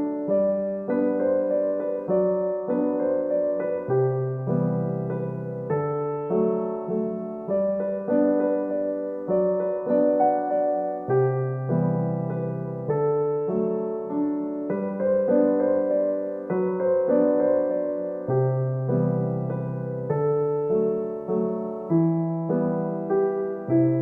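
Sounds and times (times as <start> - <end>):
gentle piano chords: 0.0 - 24.0.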